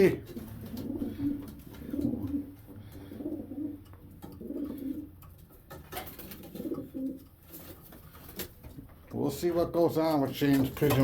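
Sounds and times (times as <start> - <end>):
pigeons cooing: 0.0 - 9.0.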